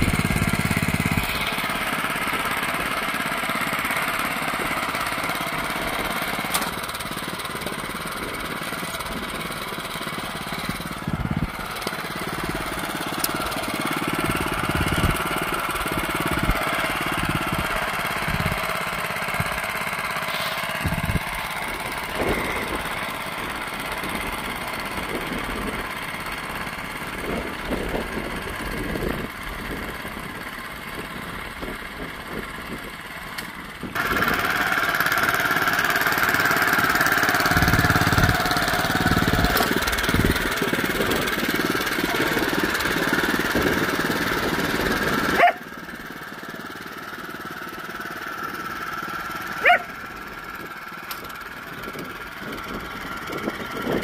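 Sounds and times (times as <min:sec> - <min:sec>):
tiller petrol engine running: 0:00.0 - 0:54.0.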